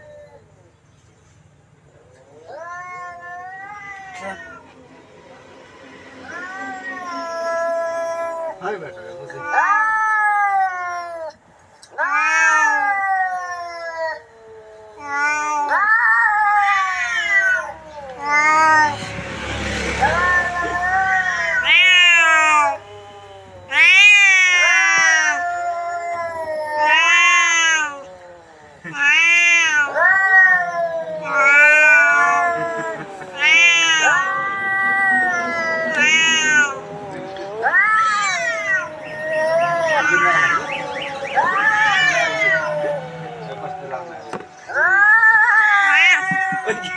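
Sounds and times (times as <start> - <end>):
cat meowing: 2.0 - 46.9.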